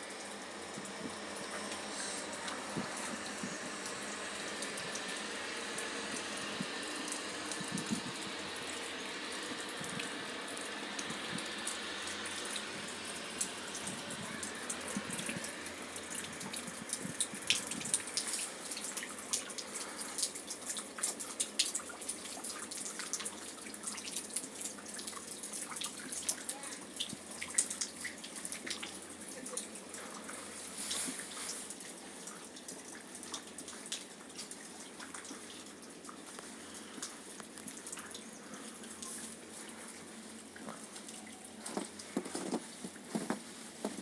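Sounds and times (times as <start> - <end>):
sharp drips: 0.0 - 43.9
running water: 0.0 - 44.0.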